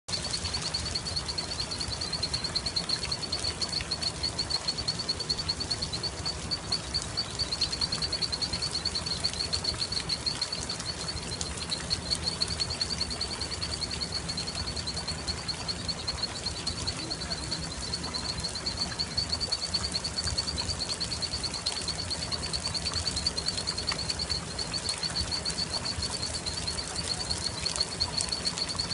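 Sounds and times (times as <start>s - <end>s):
high-pitched pulsing animal call: 0.1s - 28.9s.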